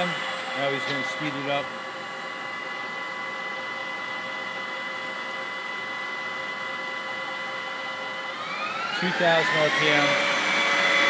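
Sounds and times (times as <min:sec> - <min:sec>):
lathe spindle whine: 0:00.0 - 0:11.0.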